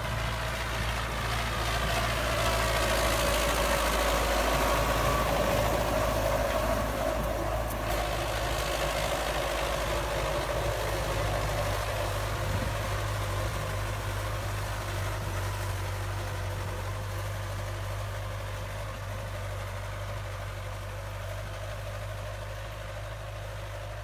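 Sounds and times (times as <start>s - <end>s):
diesel tractor engine under load: 0.0s - 24.0s.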